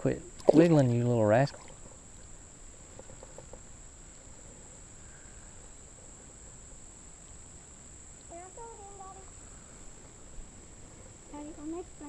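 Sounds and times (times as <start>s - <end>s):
insect chorus shrilling: 0.0s - 12.0s.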